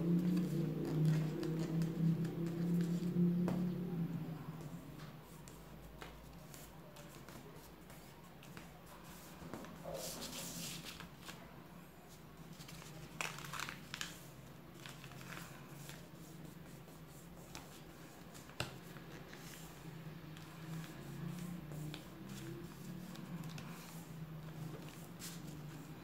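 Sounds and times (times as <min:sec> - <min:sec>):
paper rustling and creasing: 0:00.2 - 0:03.1, 0:06.3 - 0:26.0.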